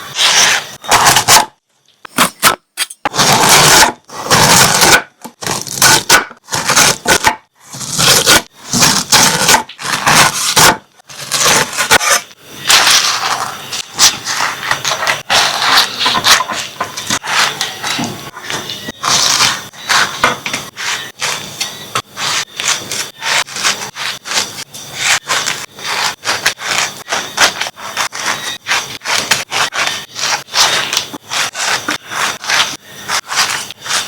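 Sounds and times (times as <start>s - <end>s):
knife slicing pineapple: 2.1s - 34.0s.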